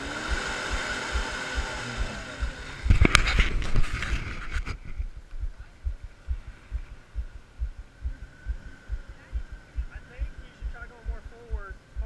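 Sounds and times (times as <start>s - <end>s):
car engine revving: 0.0s - 4.8s, 6.2s - 12.0s.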